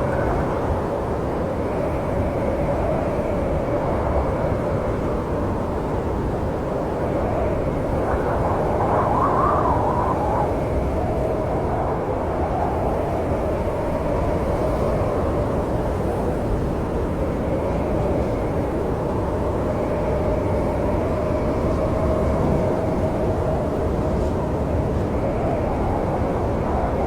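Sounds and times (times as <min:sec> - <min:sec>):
howling snowstorm wind: 0:00.0 - 0:27.0.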